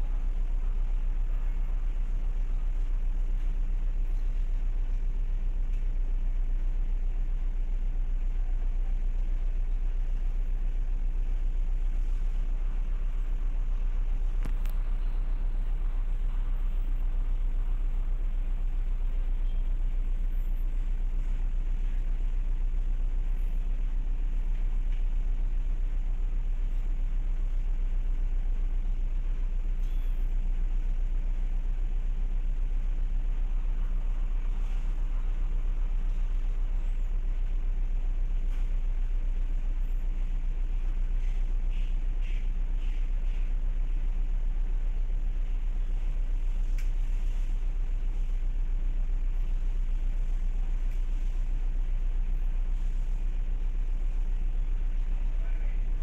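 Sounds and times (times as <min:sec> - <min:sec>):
ship diesel engines rumbling: 0:00.0 - 0:56.0.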